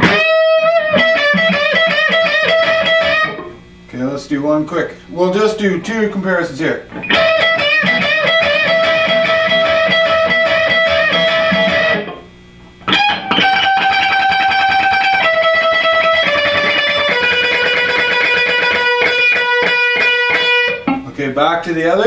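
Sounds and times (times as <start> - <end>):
electric guitar fast-picked notes: 0.0 - 3.6, 6.9 - 21.2.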